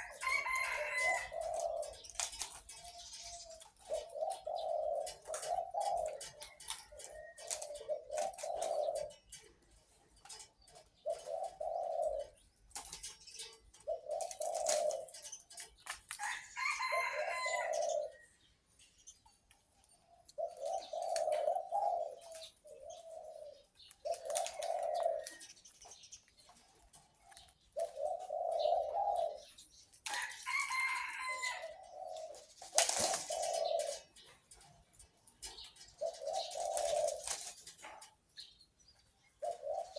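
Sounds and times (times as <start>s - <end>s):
dove cooing: 0.0s - 18.4s, 19.8s - 39.9s
birds chirping: 0.0s - 39.9s.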